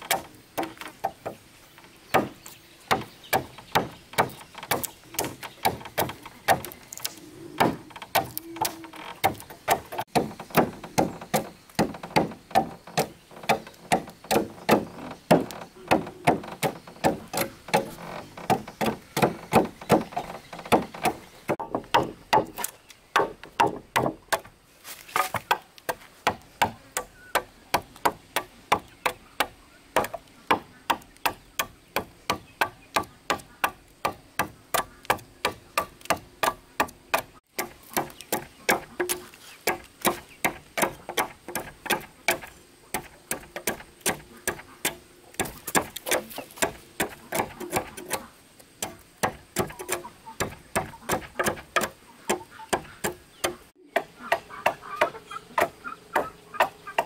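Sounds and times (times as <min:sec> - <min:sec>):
machete chopping wood: 0:00.0 - 0:01.4, 0:02.1 - 0:57.0.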